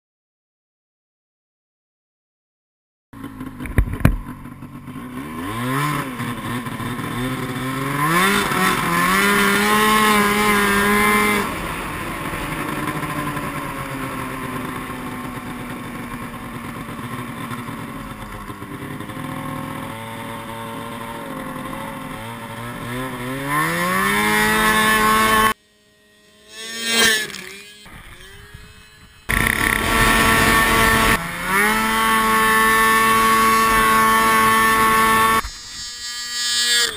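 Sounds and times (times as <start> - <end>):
snowmobile engine revving: 3.2 - 36.9.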